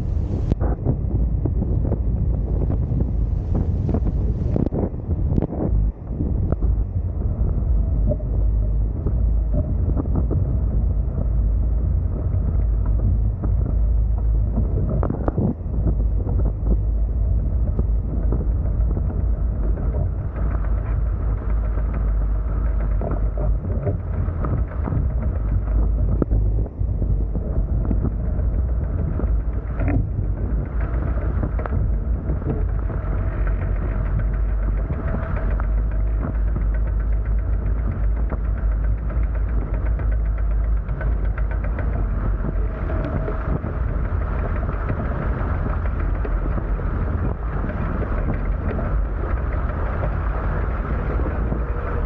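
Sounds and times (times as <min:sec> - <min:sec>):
water splashing along hull: 0:00.0 - 0:52.0
wind buffeting microphone: 0:00.0 - 0:52.0.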